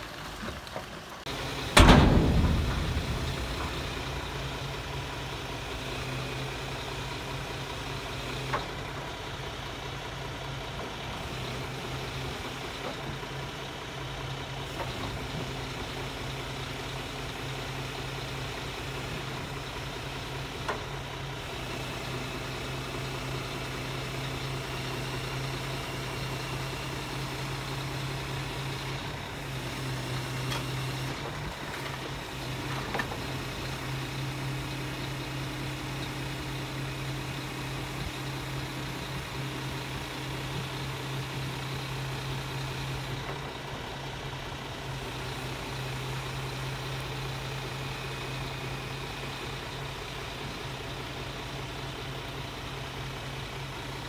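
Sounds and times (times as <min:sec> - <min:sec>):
truck diesel engine idling: 0:00.0 - 0:54.0.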